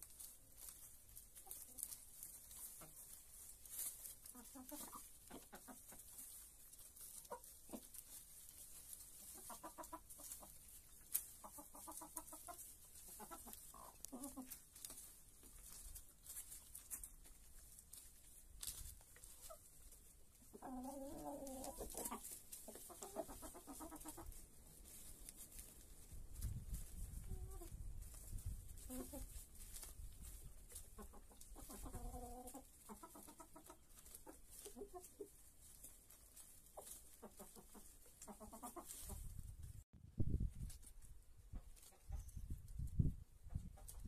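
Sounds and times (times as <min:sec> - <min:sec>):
chickens clucking: 0:00.0 - 0:39.8, 0:40.7 - 0:44.0.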